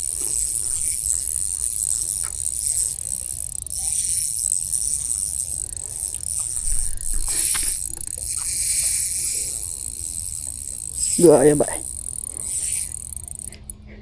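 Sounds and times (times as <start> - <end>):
fishing reel rattling whir: 0.0 - 13.8.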